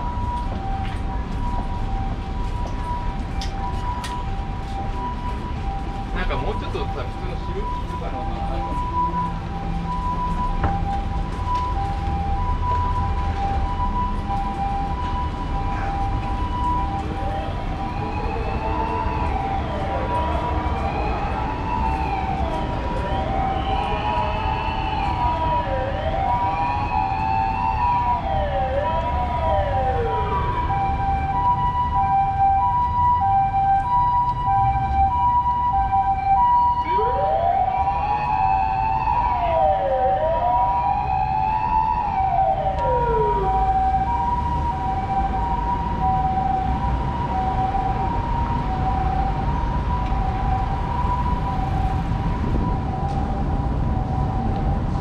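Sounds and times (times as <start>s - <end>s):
city traffic rumble: 0.0s - 55.0s
two-note hi-lo siren: 0.0s - 55.0s
wailing siren: 0.0s - 55.0s.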